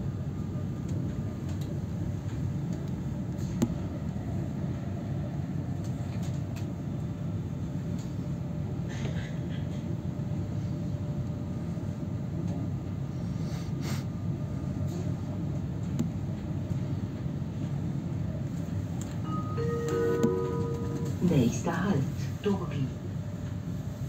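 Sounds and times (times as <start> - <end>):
train rumbling inside carriage: 0.0 - 24.0.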